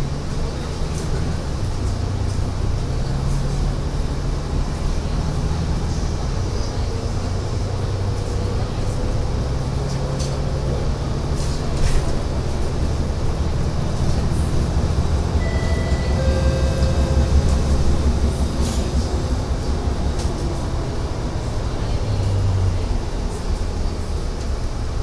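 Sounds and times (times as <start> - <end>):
bus engine hum: 0.0 - 25.0
road noise: 0.0 - 25.0.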